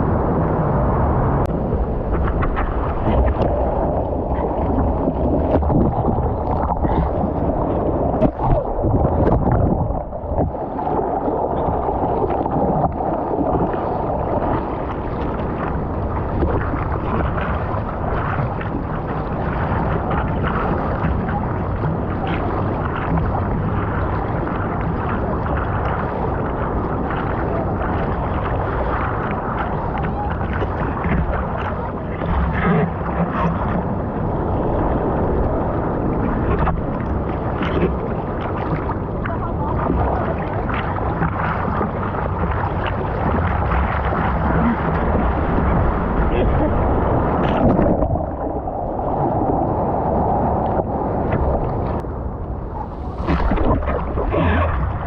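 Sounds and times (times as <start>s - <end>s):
water splashes: 0.0s - 55.0s
waves breaking: 0.0s - 55.0s.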